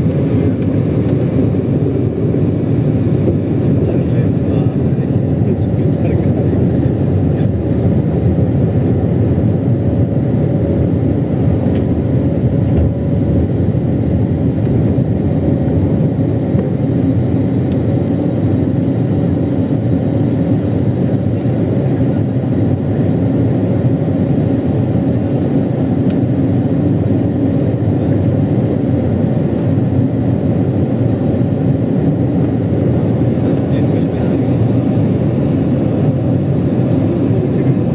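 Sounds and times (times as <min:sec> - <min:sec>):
jet engines running: 0:00.0 - 0:37.9.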